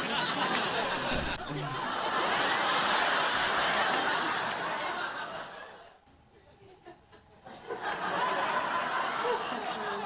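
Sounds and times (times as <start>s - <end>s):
people laughing and chuckling: 0.0s - 10.0s.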